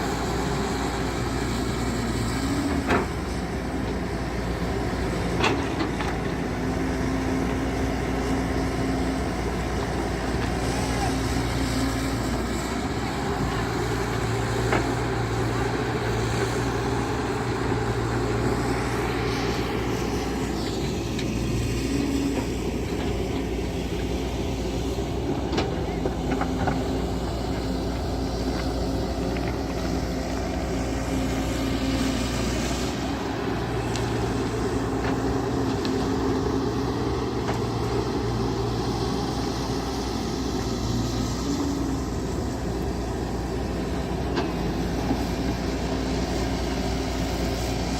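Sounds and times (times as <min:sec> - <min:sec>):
engine running with low hum: 0:00.0 - 0:47.9.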